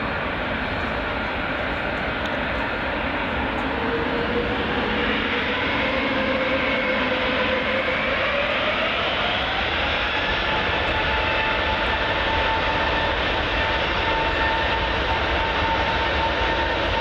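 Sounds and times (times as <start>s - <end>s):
jet engines taxiing: 0.0s - 17.0s.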